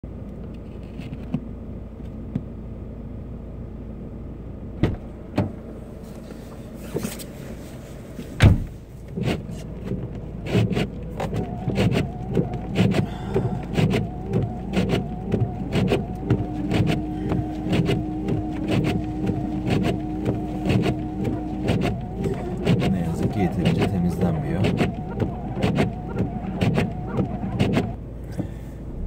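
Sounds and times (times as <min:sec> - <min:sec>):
car idling: 0:00.1 - 0:29.0
car door shutting: 0:04.8 - 0:29.0
rustles inside car cabin: 0:04.8 - 0:29.0.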